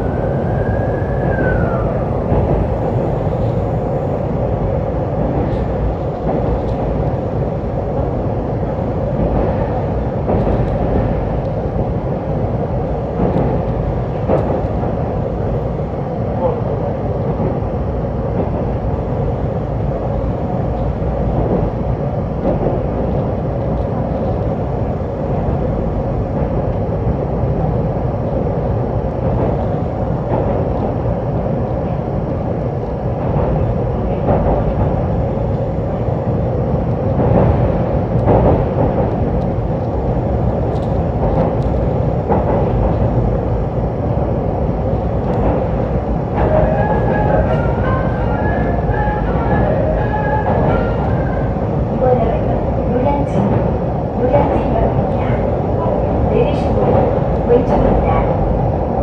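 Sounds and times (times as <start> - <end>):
rumble of wheels on rails: 0.0 - 59.0.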